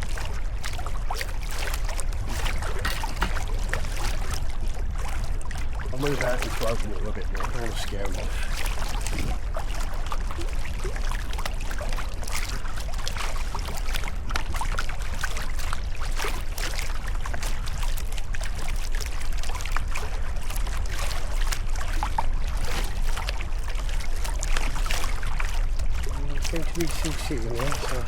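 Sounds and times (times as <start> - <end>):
paddle splashing in water: 0.0 - 28.0.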